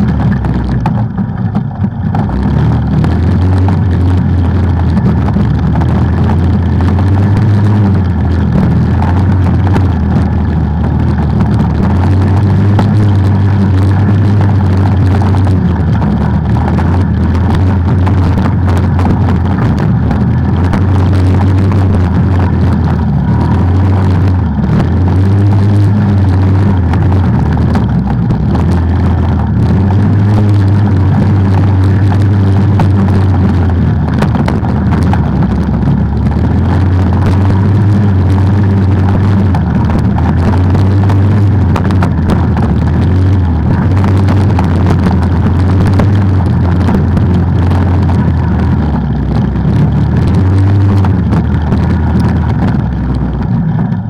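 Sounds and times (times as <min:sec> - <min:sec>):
off-road vehicle engine running: 0:00.0 - 0:54.0
road and wind noise: 0:00.0 - 0:54.0.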